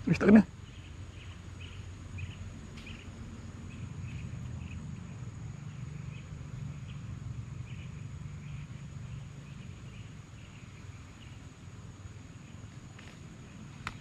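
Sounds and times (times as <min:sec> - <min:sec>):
insect chirps: 0:00.0 - 0:14.0
insect drone: 0:00.0 - 0:14.0.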